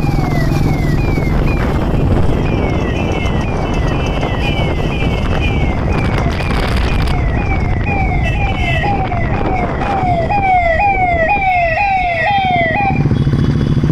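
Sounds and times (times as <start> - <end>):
electronic police siren: 0.0 - 13.9
motorcycle engines: 0.0 - 13.9
road noise: 0.0 - 13.9.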